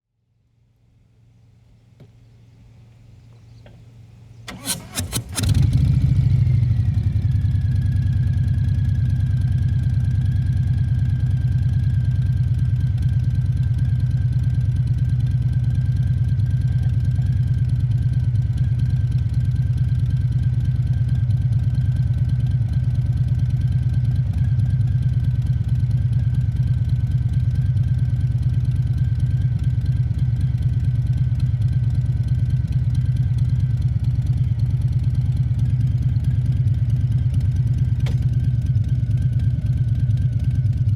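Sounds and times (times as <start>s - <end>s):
motorcycle engine idling: 1.0s - 40.9s.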